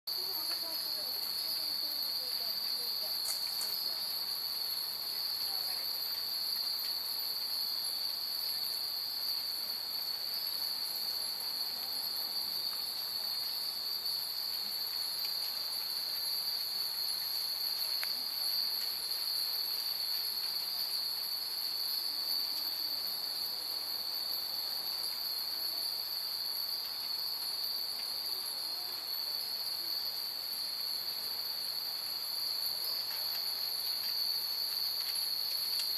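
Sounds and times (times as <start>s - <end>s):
night insects chirring: 0.1s - 35.9s.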